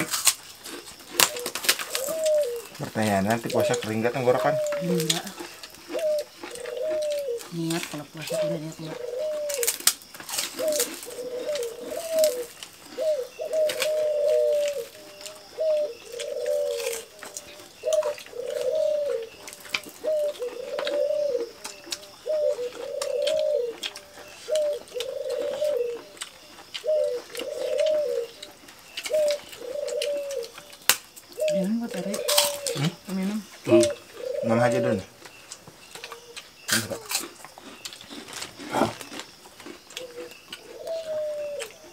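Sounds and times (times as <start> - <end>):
people eating with their hands: 0.0 - 41.9
dove cooing: 0.7 - 37.2, 39.9 - 41.9.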